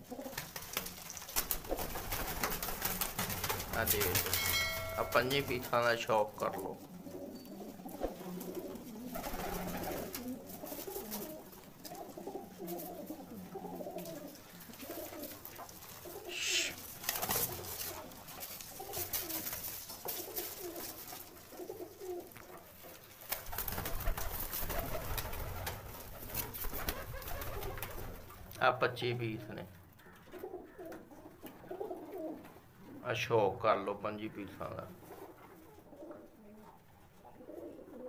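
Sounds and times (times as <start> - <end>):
pigeons cooing: 0.0 - 5.7, 6.6 - 22.8, 23.6 - 28.5, 29.1 - 33.2, 34.9 - 38.0.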